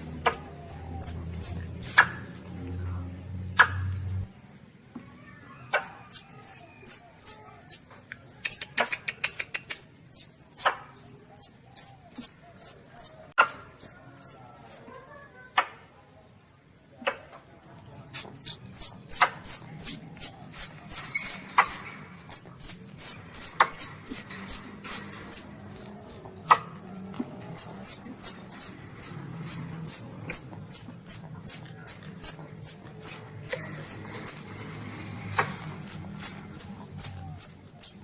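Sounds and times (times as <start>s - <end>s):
civet kittens squeaking: 0.0s - 2.2s, 5.7s - 14.8s, 18.1s - 26.8s, 27.4s - 38.0s.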